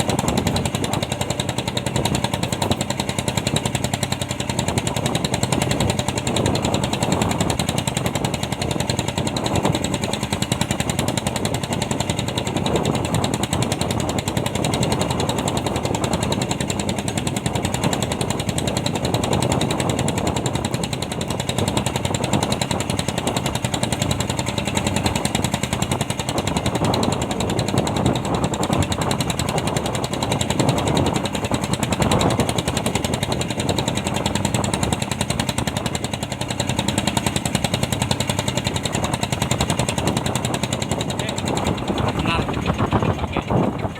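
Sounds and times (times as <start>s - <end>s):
boat engine pulsing: 0.0s - 43.9s.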